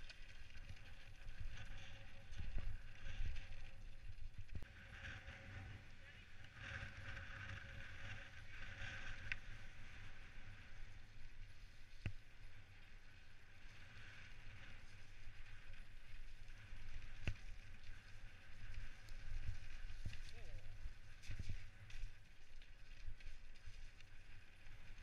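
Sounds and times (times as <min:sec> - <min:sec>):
bike tyres rumbling on dirt: 0:00.0 - 0:25.0.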